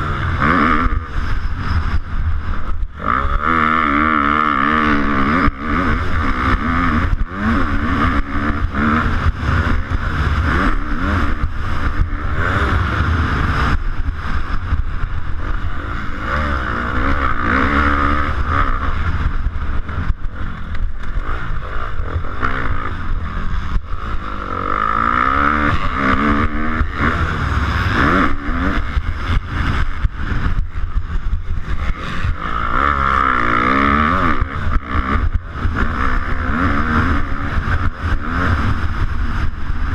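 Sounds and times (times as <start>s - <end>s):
motocross bike engine revving: 0.0s - 39.9s
wind rumble on microphone: 0.0s - 39.9s.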